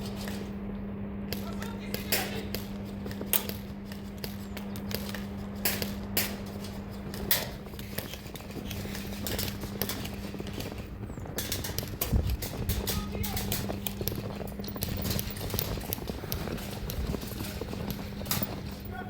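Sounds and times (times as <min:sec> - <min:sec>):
steady low hum: 0:00.0 - 0:19.0
airsoft clicks and knocks: 0:01.3 - 0:18.9.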